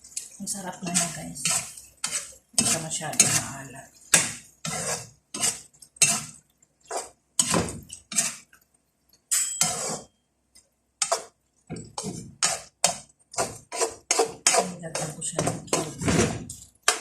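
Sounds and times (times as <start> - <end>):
spoon scraping a cooking pot: 0.1 - 8.6, 9.3 - 10.2, 11.0 - 17.0.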